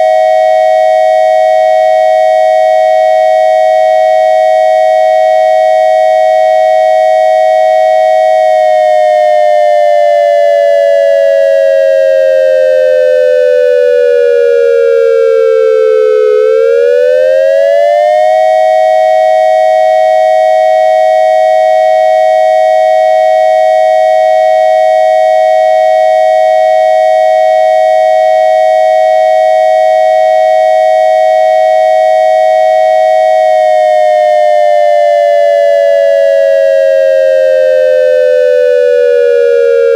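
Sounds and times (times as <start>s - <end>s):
dual-tone electronic siren: 0.0s - 39.9s.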